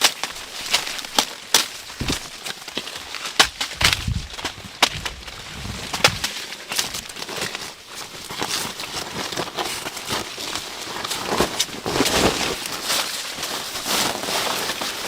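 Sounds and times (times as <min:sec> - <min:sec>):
crackling and rustling: 0:00.0 - 0:15.0.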